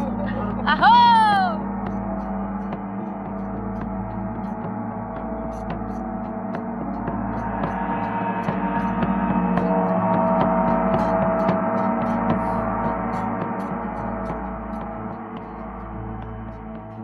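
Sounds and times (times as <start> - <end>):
deep drone: 0.0 - 17.0
gong-like tones: 0.0 - 17.0
light ticking pulse: 0.0 - 17.0.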